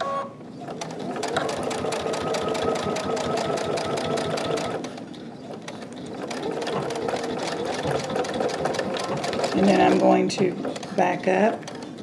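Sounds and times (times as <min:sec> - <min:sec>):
sewing machine stitching: 0:00.7 - 0:12.0.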